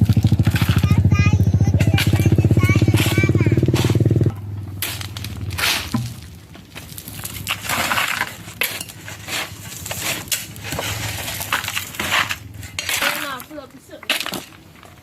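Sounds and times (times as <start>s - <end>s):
stones crunching and scraping: 0.0s - 15.0s.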